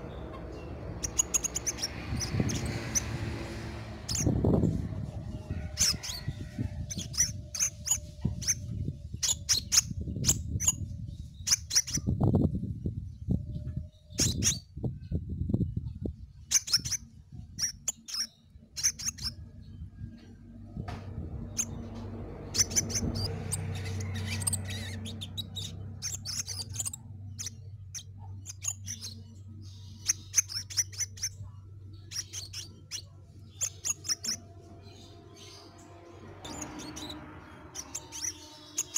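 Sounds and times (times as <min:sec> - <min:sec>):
bird chirping: 0:00.0 - 0:15.2, 0:16.4 - 0:38.9
low background rumble: 0:00.0 - 0:38.9.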